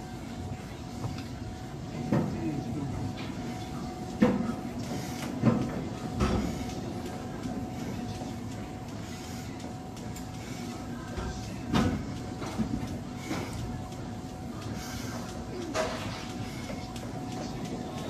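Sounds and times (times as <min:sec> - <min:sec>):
background murmur: 0:00.0 - 0:18.0
steady hum: 0:00.0 - 0:18.0.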